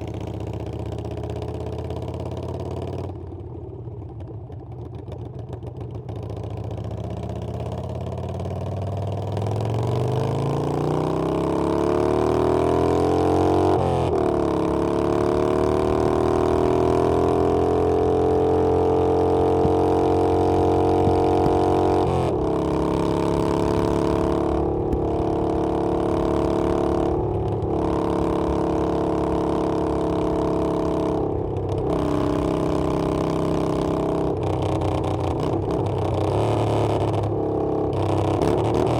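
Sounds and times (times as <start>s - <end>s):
motorcycle engine accelerating: 6.4s - 38.9s.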